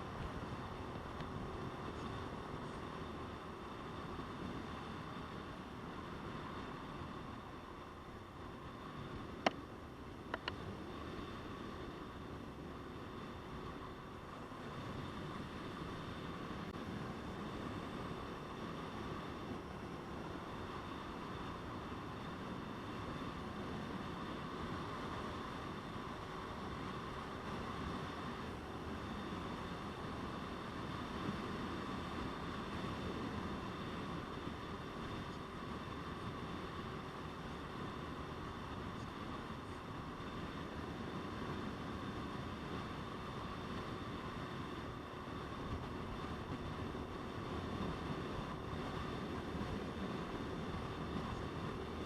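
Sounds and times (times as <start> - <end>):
road noise: 0.0 - 52.0
wind rushing over microphone: 0.0 - 52.0.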